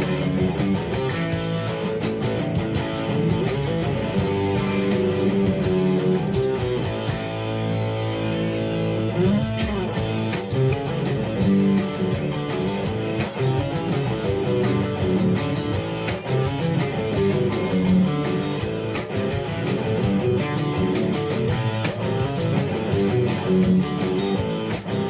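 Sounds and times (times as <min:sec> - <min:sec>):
guitar playing: 0:00.0 - 0:25.0
steady drum beat: 0:00.0 - 0:25.0.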